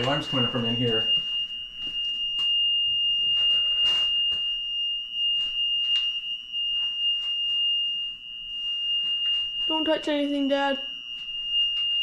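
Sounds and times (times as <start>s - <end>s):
alarm high-pitched tone: 0.0s - 12.0s.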